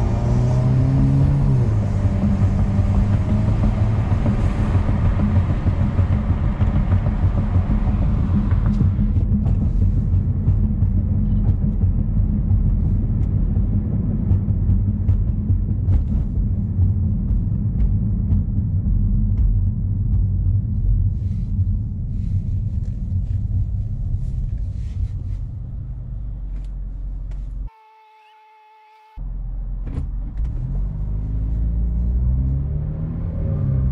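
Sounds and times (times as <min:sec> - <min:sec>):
car exhaust drone while cruising: 0:00.0 - 0:27.7, 0:29.2 - 0:33.9.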